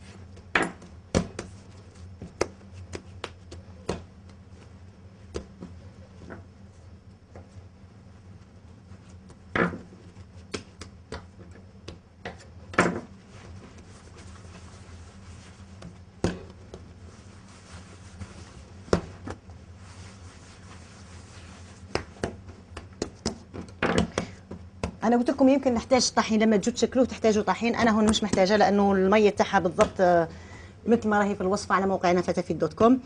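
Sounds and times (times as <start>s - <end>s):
low steady hum: 0.0s - 33.0s
hands kneading dough thumps: 0.1s - 7.8s, 8.4s - 25.8s, 27.6s - 30.1s.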